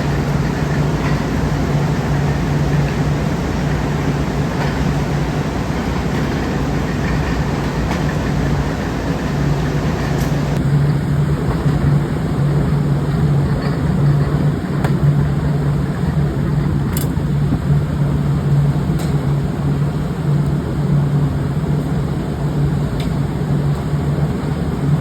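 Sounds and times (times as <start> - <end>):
factory machinery humming: 0.0 - 25.0.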